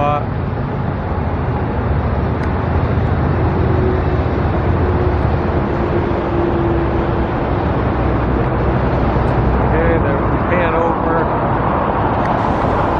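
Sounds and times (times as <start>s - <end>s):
road traffic noise: 0.0s - 12.9s
vehicle hum: 0.0s - 12.9s.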